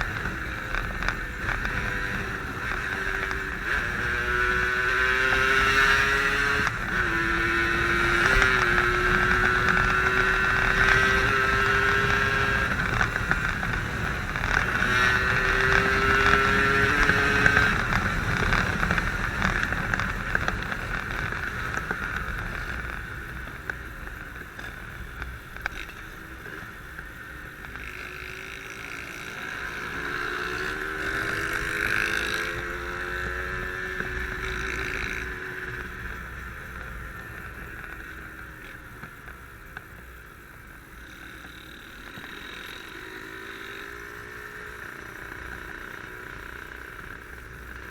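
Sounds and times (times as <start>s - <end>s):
two-stroke motorcycle engine: 0.0s - 47.9s.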